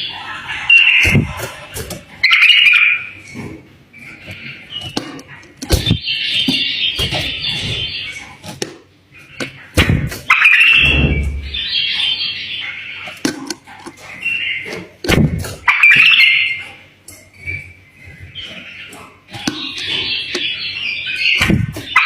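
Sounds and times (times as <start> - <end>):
bird singing warbling phrases: 0.0 - 8.4, 9.1 - 13.2, 14.0 - 16.7, 17.3 - 22.0.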